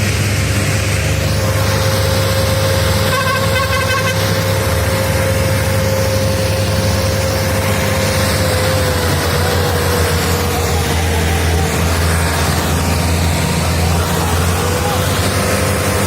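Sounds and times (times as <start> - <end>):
steady whine: 0.0 - 16.0
tractor diesel engine running: 0.0 - 16.0
horn pulses: 1.4 - 16.0.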